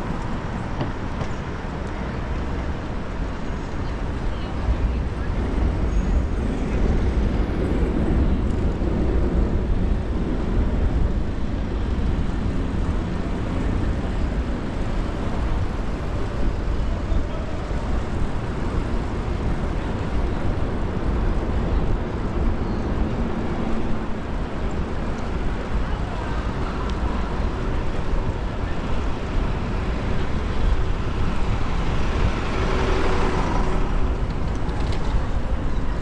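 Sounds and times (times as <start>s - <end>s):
road rumble: 0.0s - 36.0s
wind on microphone: 0.0s - 36.0s.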